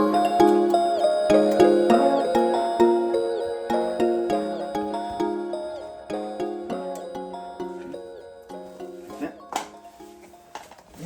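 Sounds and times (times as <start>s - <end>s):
gentle melody of struck notes: 0.0s - 10.6s.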